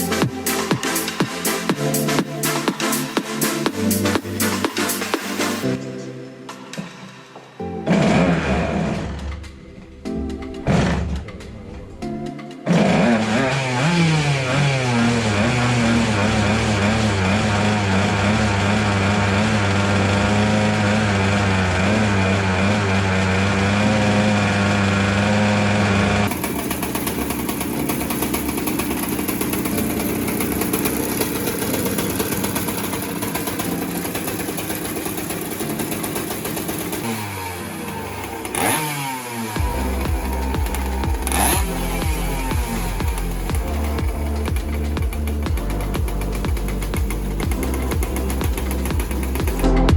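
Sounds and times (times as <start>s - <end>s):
go-kart engine running: 0.0s - 5.8s, 7.7s - 11.8s, 12.6s - 49.9s.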